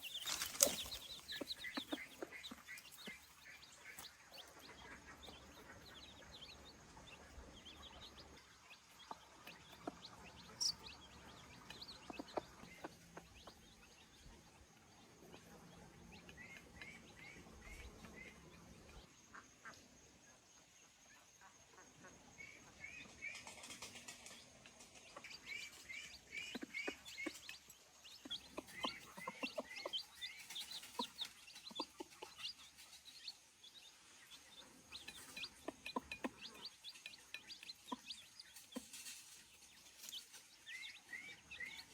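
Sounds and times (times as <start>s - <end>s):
birds chirping: 0.0s - 41.9s.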